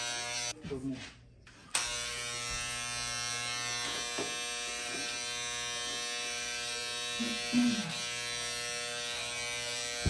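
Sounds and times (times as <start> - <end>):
electric hair clippers buzzing: 0.0 - 0.6, 1.7 - 10.0.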